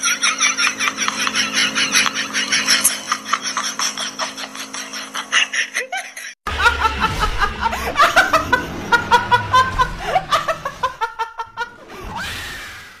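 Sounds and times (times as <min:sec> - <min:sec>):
woman laughing hard: 0:00.0 - 0:11.8.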